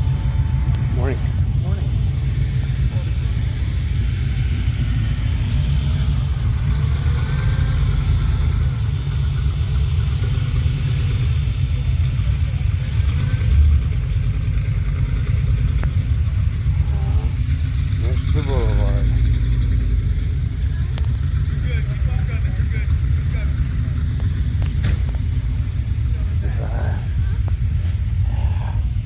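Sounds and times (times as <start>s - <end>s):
car engines rumbling: 0.0s - 29.0s.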